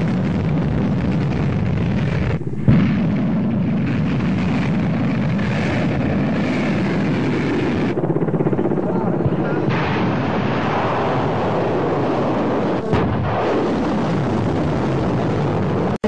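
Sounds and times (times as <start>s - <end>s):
rocket motor rumbling: 0.0s - 16.0s.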